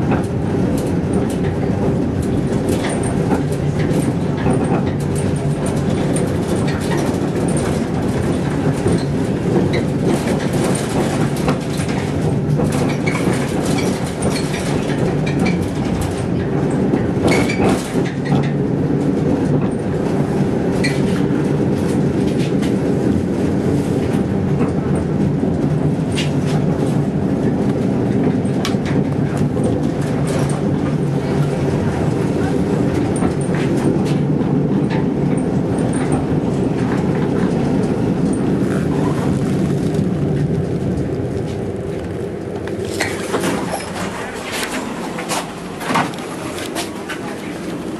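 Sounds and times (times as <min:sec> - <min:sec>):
tram rumble from inside: 0:00.0 - 0:47.9
wheels clicking over rail joints: 0:00.0 - 0:47.9.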